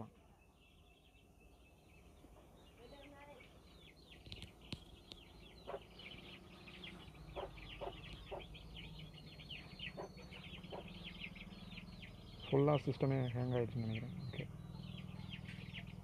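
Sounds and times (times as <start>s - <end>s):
high bird chirps: 0.0s - 16.0s
low clucking bird calls: 1.2s - 16.0s.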